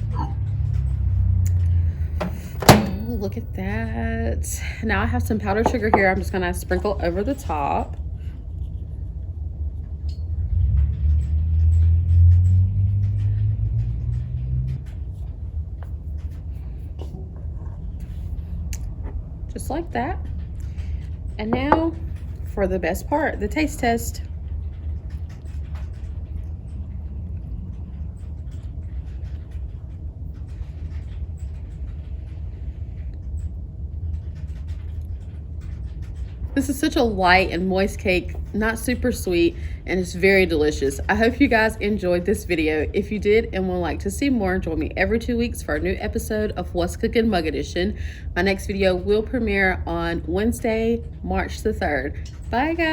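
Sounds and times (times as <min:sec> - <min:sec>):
low rumble: 0:00.0 - 0:52.9.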